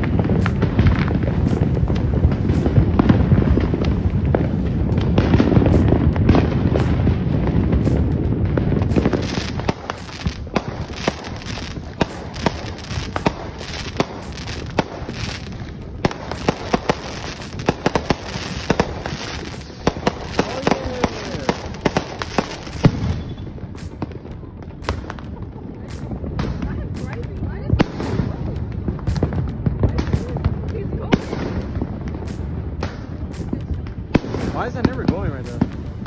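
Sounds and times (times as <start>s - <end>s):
firework pops and crackles: 0.0s - 36.0s
fireworks bangs and rumble: 0.0s - 36.0s.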